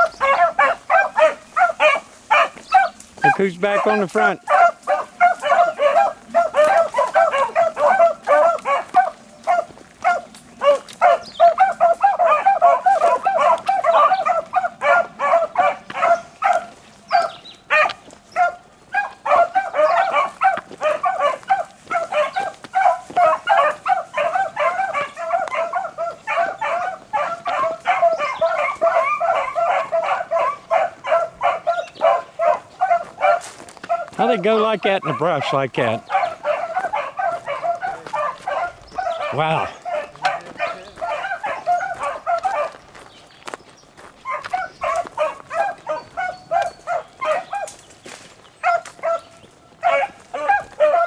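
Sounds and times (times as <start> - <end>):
pack of hounds baying: 0.0 - 51.0.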